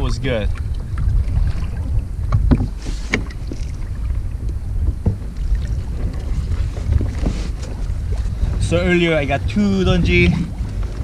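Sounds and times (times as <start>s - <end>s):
water splashes: 0.0s - 11.0s
wind buffeting microphone: 0.0s - 11.0s
kayak knocks: 0.5s - 11.0s.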